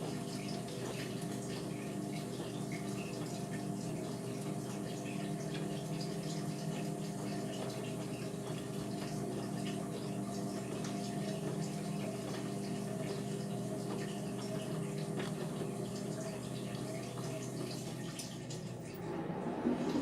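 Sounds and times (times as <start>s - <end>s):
washing machine motor hum: 0.0s - 20.0s.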